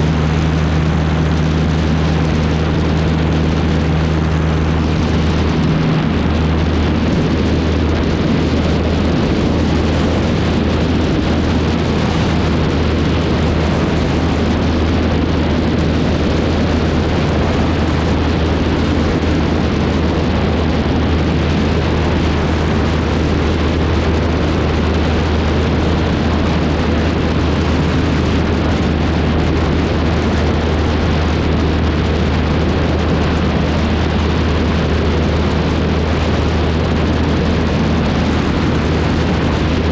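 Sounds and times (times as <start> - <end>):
airplane engine drone: 0.0 - 39.9
wind rushing: 0.0 - 39.9.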